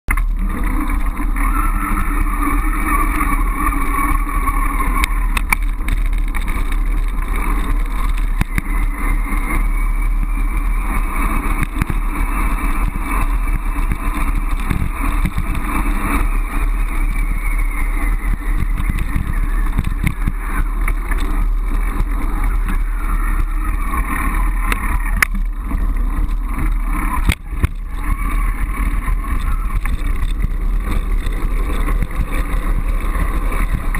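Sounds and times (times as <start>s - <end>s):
bicycle riding noise: 0.1s - 33.9s
wind buffeting: 0.2s - 33.9s.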